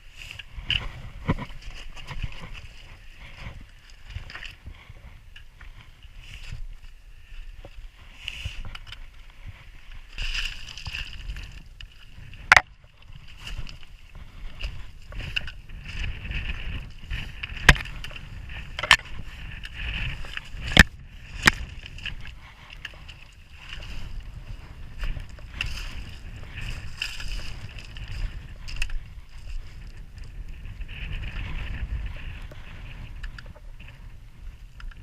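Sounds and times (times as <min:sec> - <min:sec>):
footsteps on rocky path: 0:00.0 - 0:35.0
wind buffeting microphone: 0:00.0 - 0:35.0.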